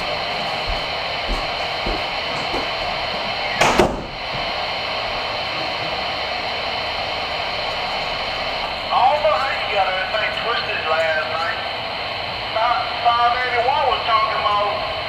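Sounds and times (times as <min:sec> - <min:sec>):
radio static hissing: 0:00.0 - 0:15.0.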